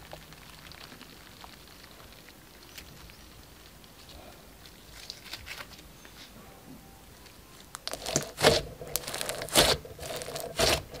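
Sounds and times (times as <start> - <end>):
slime crackling and squelching: 0.0 - 5.8, 7.6 - 11.0.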